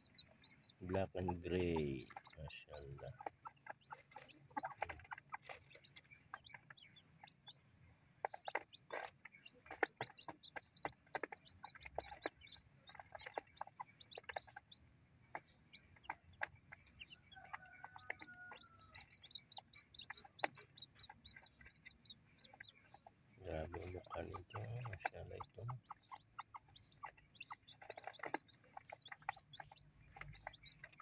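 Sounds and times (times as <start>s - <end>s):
chicks peeping: 0.0s - 31.0s
beaks tapping on cardboard: 3.0s - 7.5s, 8.2s - 31.0s.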